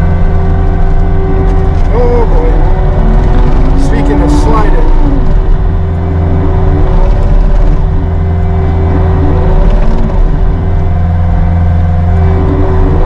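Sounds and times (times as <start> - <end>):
diesel engine running under load: 0.0 - 13.0
steady whine: 0.0 - 13.0.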